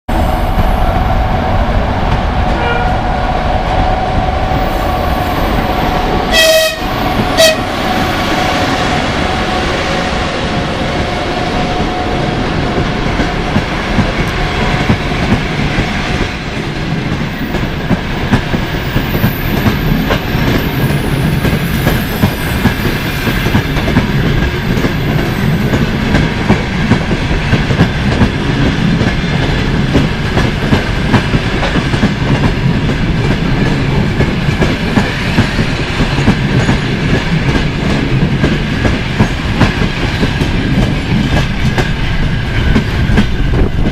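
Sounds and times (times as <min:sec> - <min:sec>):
train rumble: 0:00.1 - 0:43.9.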